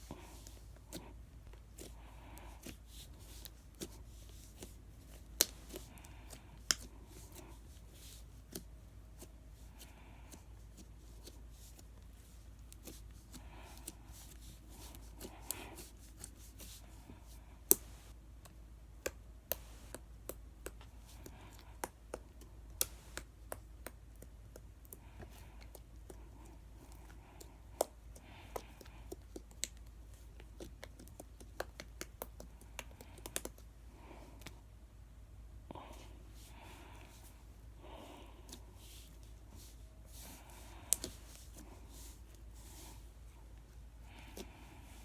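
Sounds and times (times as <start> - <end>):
slime squishing: 0.1 - 18.1, 19.0 - 34.6, 38.0 - 45.0.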